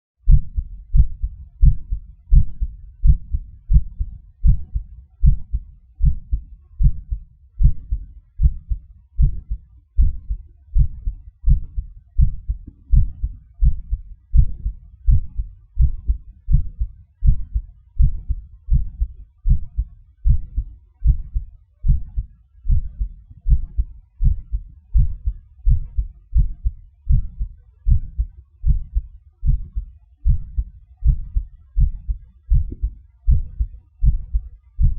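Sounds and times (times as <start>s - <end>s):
heartbeat thumps: 0.2s - 34.9s.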